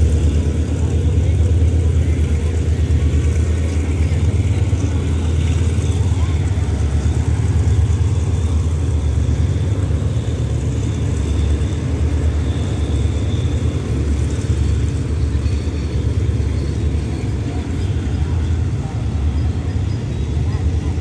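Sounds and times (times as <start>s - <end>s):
train carriages rumbling past: 0.0s - 21.0s.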